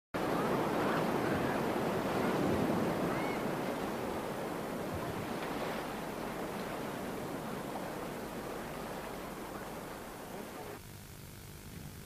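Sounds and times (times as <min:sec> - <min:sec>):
sea waves washing: 0:00.2 - 0:10.8.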